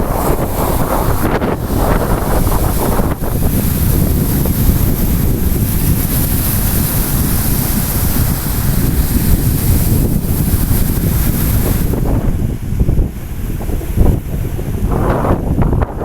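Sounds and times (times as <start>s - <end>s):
storm waves on shore: 0.0s - 16.0s
wind buffeting microphone: 0.0s - 16.0s.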